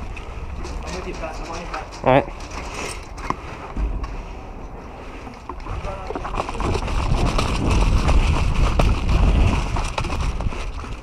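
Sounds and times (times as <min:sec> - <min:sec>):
footsteps on gravel: 0:00.0 - 0:11.0
wind rumbling on microphone: 0:00.0 - 0:11.0.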